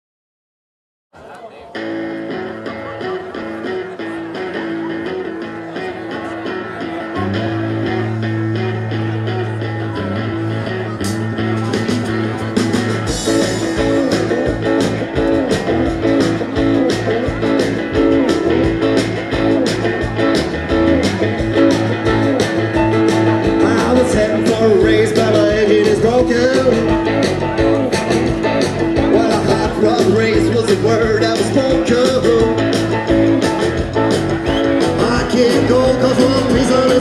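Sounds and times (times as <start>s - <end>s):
rockabilly band playing: 1.7s - 37.0s.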